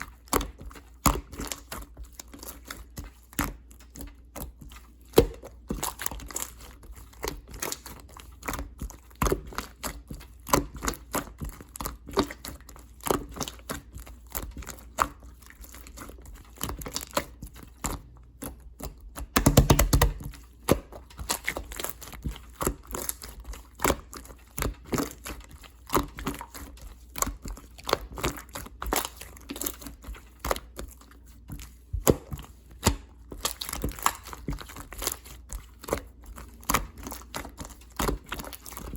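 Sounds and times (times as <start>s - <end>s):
slime being squished by hand: 0.0s - 38.9s.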